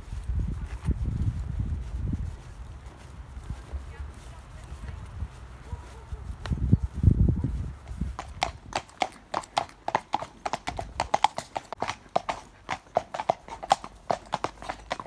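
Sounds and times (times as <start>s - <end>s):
horse hooves clip-clopping on tarmac: 0.0s - 15.0s.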